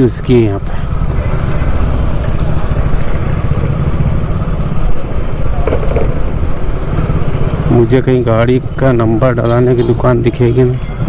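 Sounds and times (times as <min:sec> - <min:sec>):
motorcycle engine rumbling: 0:00.0 - 0:11.0
street traffic noise: 0:00.0 - 0:11.0.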